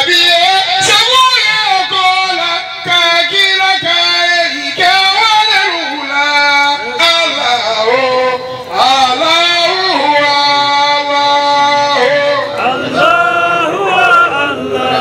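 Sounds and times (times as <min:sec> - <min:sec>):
man singing long held notes: 0:00.0 - 0:15.0.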